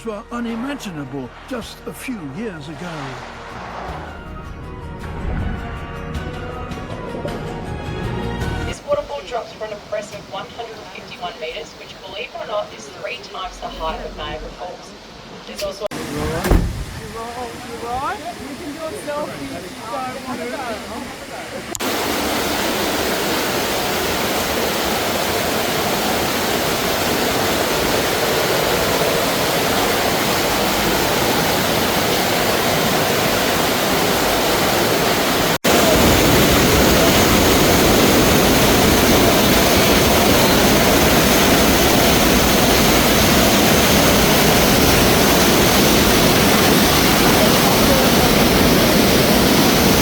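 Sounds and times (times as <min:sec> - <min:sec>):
waterfall roaring: 0:08.7 - 0:50.0.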